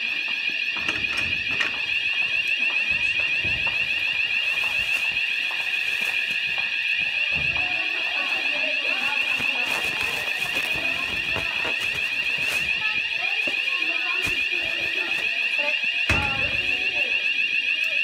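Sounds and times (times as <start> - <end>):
high-pitched fire alarm tone: 0.0 - 18.0.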